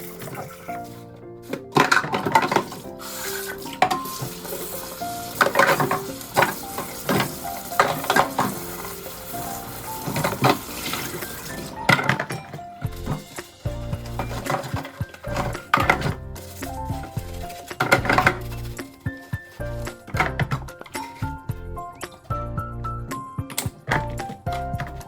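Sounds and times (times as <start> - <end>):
container scraping and rattling: 0.0 - 22.6, 23.5 - 25.0
background music: 0.0 - 25.0.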